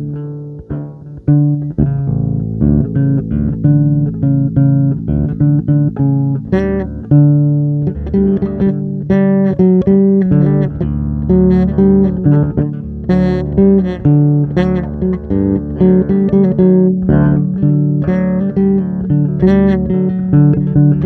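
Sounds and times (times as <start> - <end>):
low bass notes: 0.0 - 21.0
plucked guitar notes: 0.0 - 21.0.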